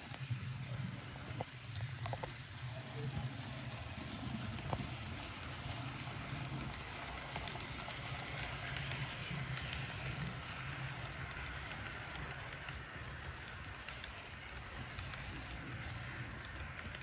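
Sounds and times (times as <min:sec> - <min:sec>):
model train motor hum: 0:00.0 - 0:17.0
wheels rattling on track: 0:00.0 - 0:17.0.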